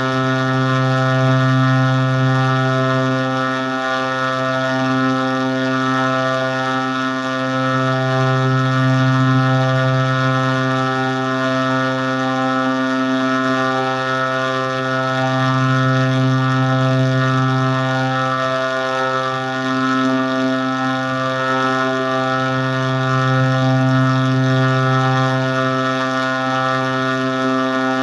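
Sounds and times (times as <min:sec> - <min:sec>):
low droning tone: 0:00.0 - 0:28.0.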